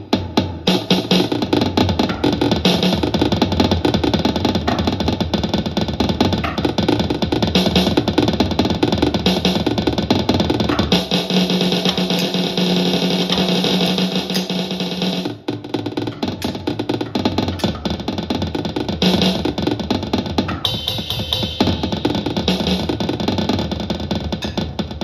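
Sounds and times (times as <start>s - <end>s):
electronic drum kit playing: 0.0s - 25.0s.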